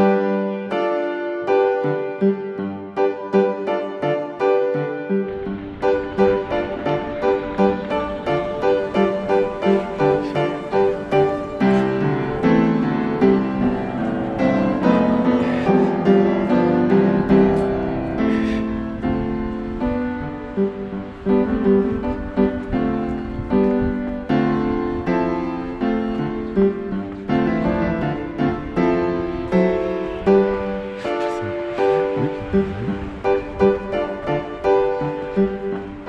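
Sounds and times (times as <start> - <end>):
piano background music: 0.0 - 36.0.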